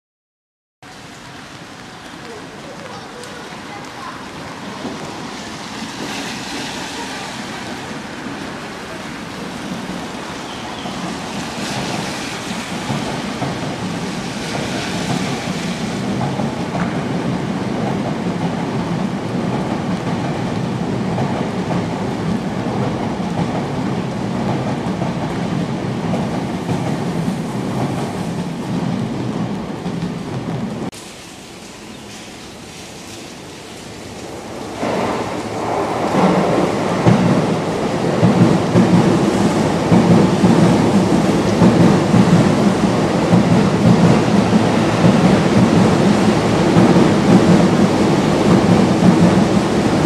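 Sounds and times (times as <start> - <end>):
train rumbling past: 0.9 - 50.0.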